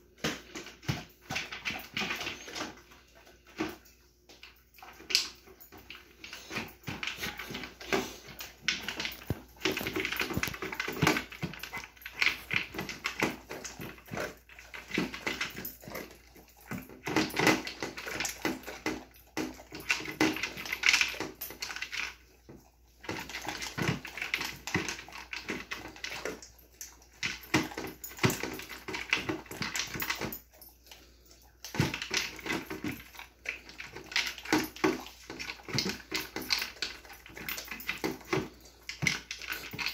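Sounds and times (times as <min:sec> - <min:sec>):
dog licking and snuffling: 0:00.0 - 0:39.9
kibble clattering against bowl: 0:00.0 - 0:39.9.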